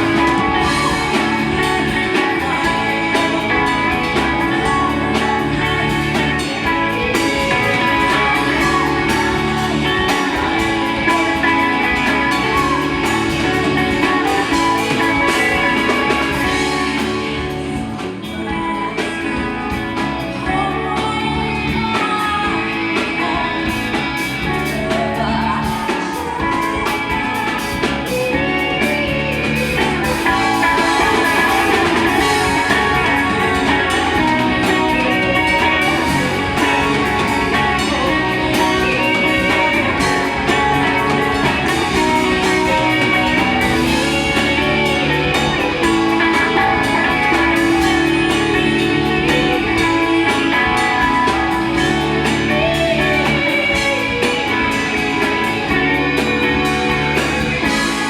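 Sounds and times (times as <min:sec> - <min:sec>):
electric guitar: 0:00.0 - 0:58.0
person singing: 0:00.0 - 0:58.0
rock band playing live: 0:00.0 - 0:58.0.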